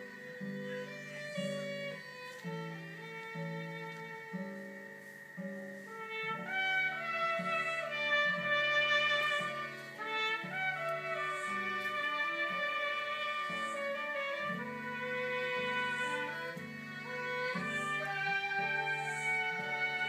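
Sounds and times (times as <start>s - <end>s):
acoustic guitar chords: 0.0s - 20.0s
trumpet: 0.0s - 20.0s
violin melody: 0.0s - 20.0s.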